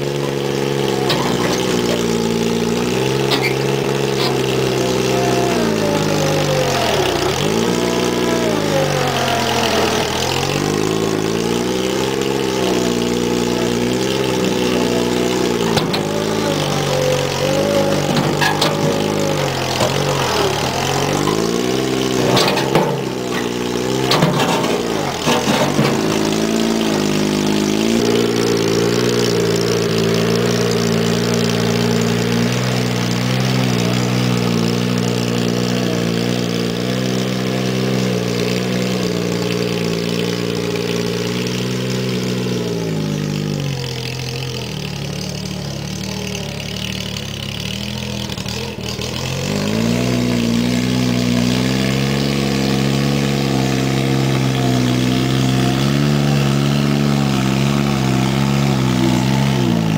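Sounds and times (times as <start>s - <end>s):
loader engine running: 0.0s - 59.9s.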